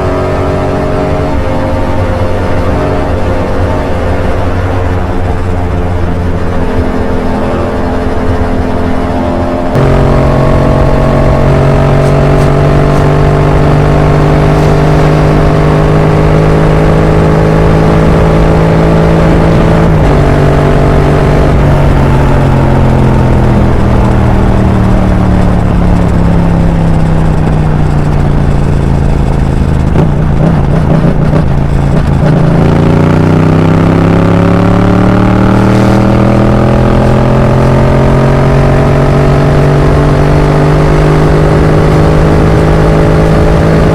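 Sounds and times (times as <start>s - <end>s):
motorcycle engine: 0.0s - 43.9s
wind and road noise: 0.0s - 43.9s.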